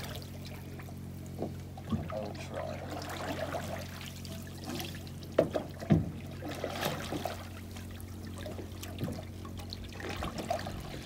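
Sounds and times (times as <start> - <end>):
low hum: 0.0 - 11.0
oars pulling through water: 0.0 - 11.0
water trickling off oars: 0.0 - 11.0.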